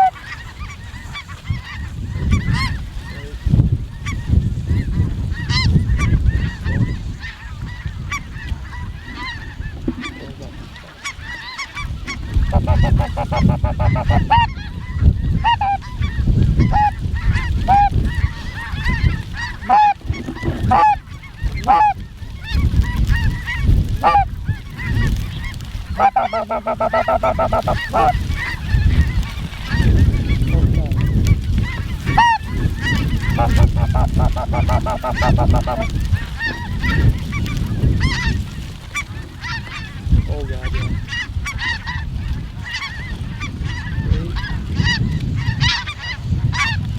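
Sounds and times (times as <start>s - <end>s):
geese honking: 0.0s - 46.8s.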